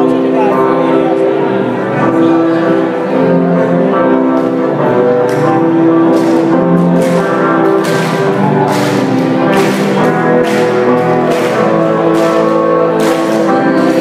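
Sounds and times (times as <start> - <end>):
pop-rock band playing: 0.0 - 14.0.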